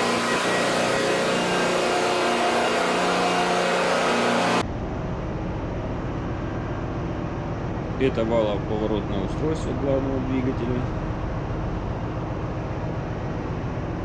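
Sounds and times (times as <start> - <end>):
dull machinery rumble: 0.0 - 14.0
engine room machinery hum: 0.0 - 14.0.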